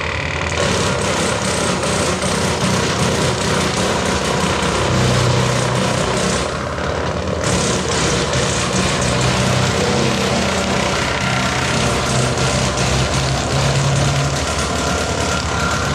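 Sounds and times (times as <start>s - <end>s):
tractor engine drone: 0.0s - 15.9s
wood chipper hissing: 0.0s - 15.9s.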